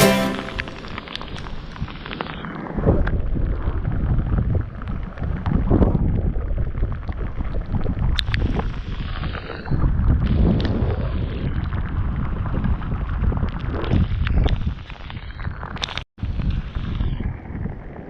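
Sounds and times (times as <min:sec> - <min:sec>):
strong wind buffeting microphone: 0:00.7 - 0:18.0.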